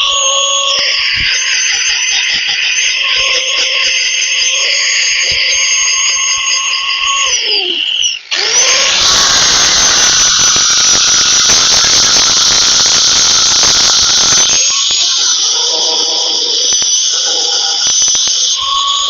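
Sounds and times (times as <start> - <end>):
power tool whining: 0.0 - 19.0.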